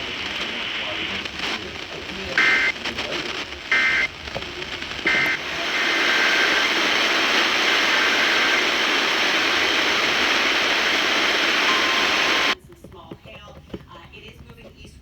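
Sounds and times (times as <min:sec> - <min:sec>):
radio static hiss: 0:00.0 - 0:12.6.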